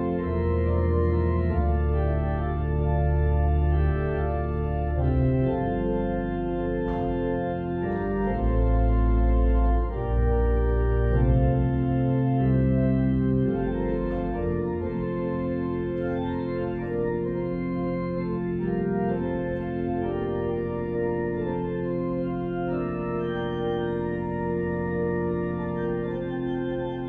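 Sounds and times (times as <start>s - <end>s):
church organ playing chords: 0.0s - 27.0s.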